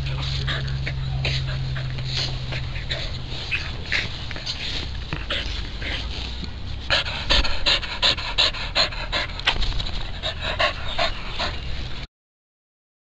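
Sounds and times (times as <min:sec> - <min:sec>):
dog panting: 0:00.0 - 0:06.3, 0:06.9 - 0:11.8.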